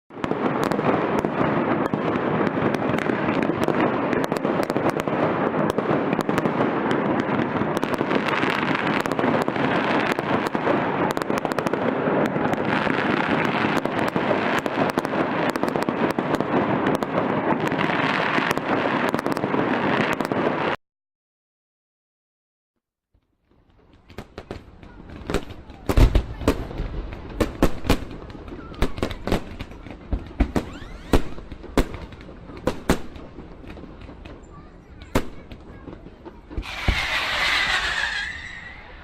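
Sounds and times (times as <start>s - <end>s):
fireworks bangs and crackles: 0.1s - 20.8s, 23.4s - 39.0s.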